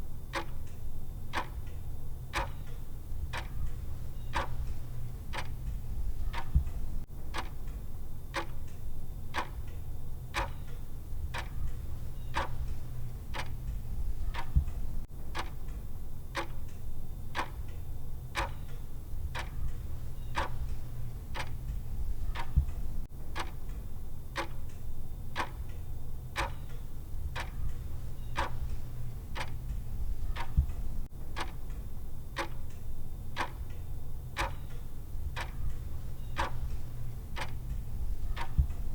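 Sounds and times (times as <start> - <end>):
low steady hum: 0.0 - 38.9
timer ticking: 0.3 - 17.8, 18.4 - 38.9.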